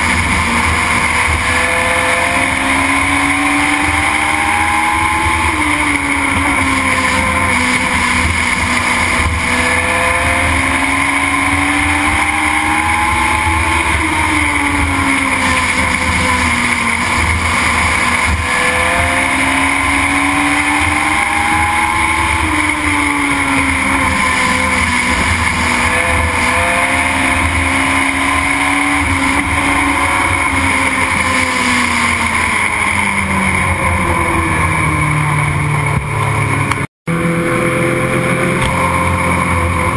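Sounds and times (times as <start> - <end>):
race car engine revving: 0.0 - 39.9
road and wind noise: 0.0 - 39.9.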